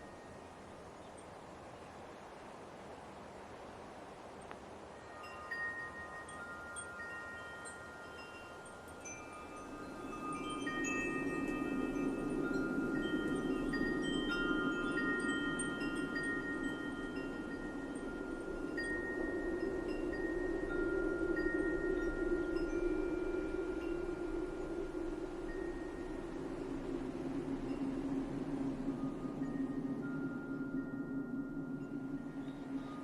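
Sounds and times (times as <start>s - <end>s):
soft wind hiss: 0.0s - 33.0s
metal wind chimes ringing: 4.9s - 33.0s.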